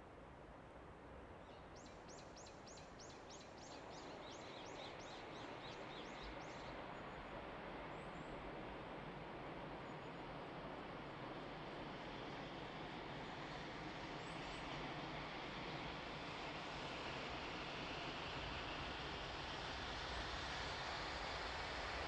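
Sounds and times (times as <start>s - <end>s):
approaching train rumble: 1.9s - 22.0s.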